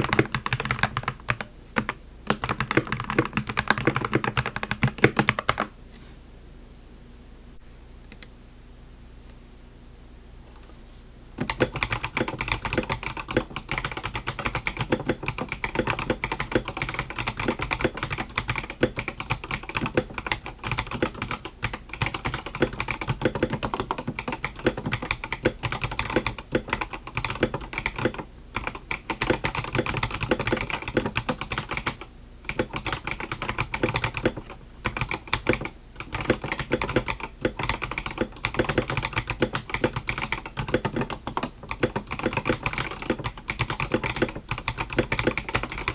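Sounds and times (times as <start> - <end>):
mechanical keyboard typing: 0.0 - 5.7, 11.4 - 45.9.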